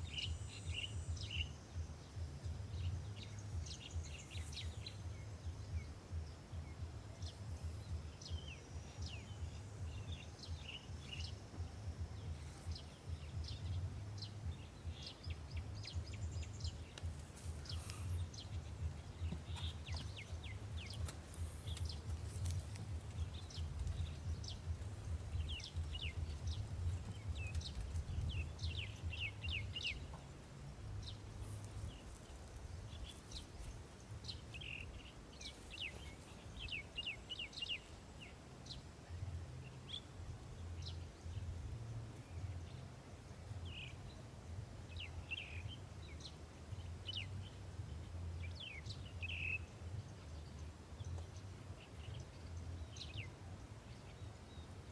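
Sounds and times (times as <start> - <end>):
steady low rumble: 0.0 - 54.5
small birds chirping: 0.0 - 54.9.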